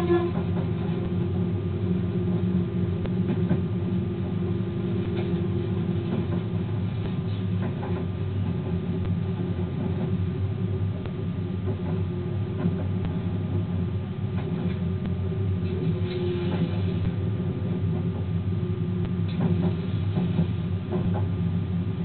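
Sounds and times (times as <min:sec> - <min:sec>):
train rumble and drone: 0:00.0 - 0:22.0.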